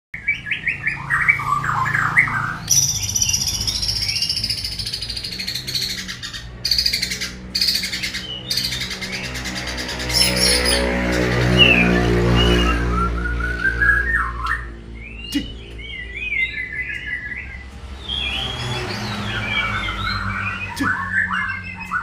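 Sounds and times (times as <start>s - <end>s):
songbird singing: 0.1s - 22.0s.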